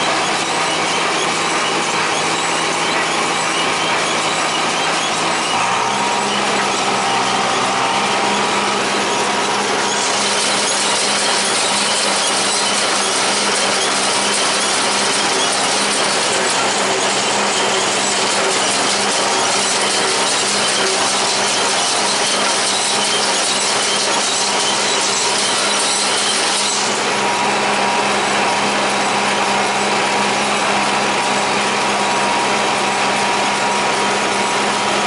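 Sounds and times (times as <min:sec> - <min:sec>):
baler mechanical clatter: 0:00.0 - 0:35.0
tractor engine: 0:00.0 - 0:35.0.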